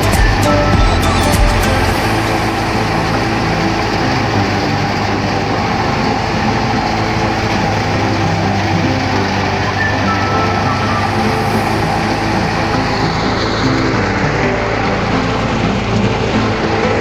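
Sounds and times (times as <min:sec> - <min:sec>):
harvesting machinery running: 0:00.0 - 0:17.0.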